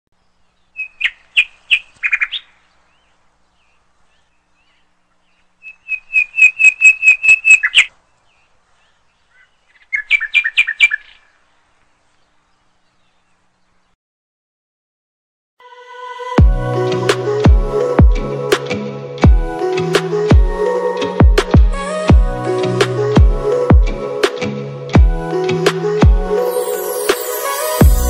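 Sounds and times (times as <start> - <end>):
songbird chirping: 0.2 - 14.0, 16.2 - 28.0.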